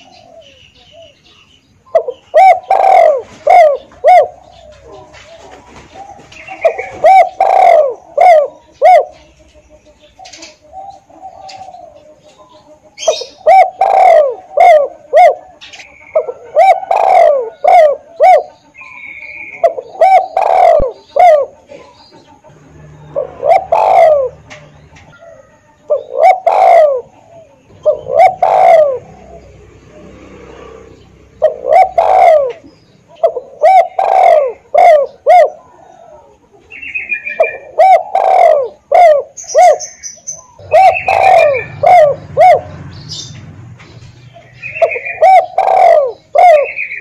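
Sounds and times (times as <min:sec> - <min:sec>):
dove cooing: 0:00.0 - 0:43.4, 0:44.2 - 0:47.0.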